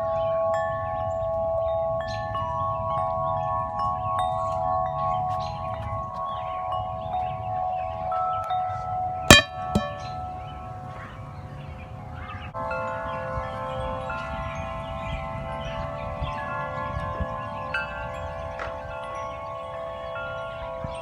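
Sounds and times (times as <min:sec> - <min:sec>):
wind chimes ringing: 0:00.0 - 0:10.9, 0:12.6 - 0:21.0.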